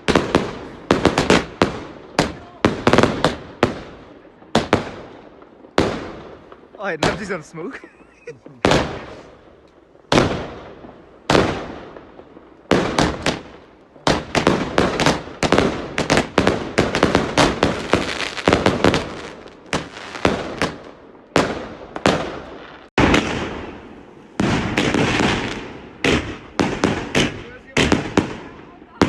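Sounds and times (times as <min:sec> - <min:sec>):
fireworks bangs with echo: 0:00.0 - 0:29.0
fireworks crackling: 0:00.0 - 0:29.0.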